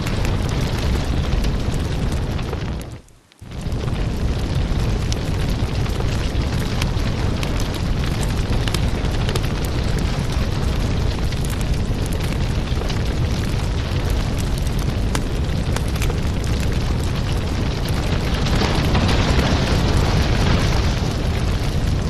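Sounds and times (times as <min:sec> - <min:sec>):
logs crackling and popping: 0:00.0 - 0:22.0
low rumble of flames: 0:00.0 - 0:22.0.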